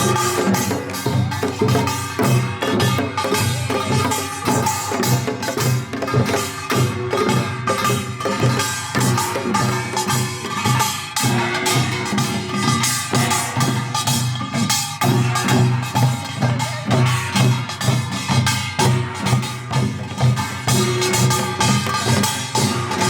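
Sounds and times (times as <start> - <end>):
repeating drum beat: 0.0 - 23.0.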